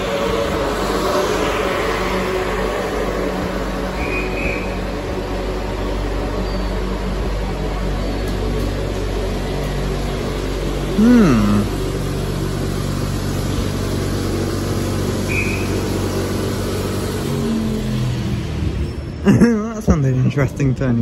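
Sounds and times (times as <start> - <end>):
electric whine: 0.0 - 19.2
train equipment humming: 0.0 - 20.9.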